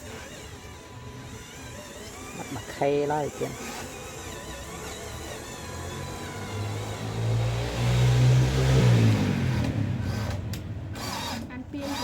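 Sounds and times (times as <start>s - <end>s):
remote-control truck motor: 0.0s - 8.1s, 9.5s - 12.0s.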